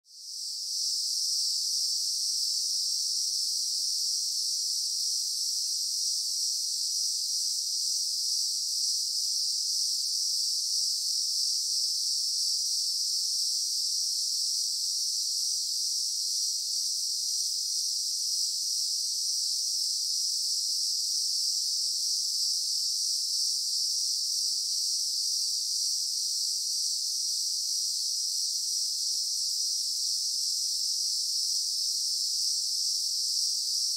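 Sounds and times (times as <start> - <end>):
shrill insect chorus: 0.3 - 33.9.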